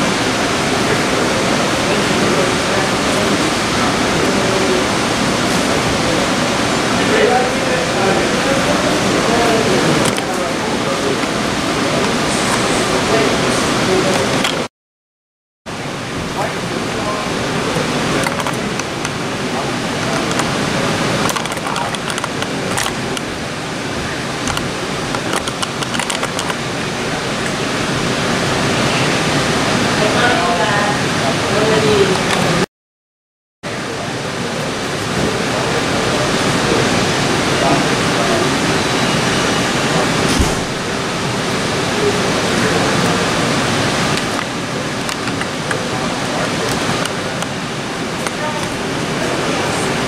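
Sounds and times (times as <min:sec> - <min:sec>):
murmur of indistinct voices: 0:00.0 - 0:14.7, 0:16.1 - 0:32.7, 0:33.7 - 0:50.0.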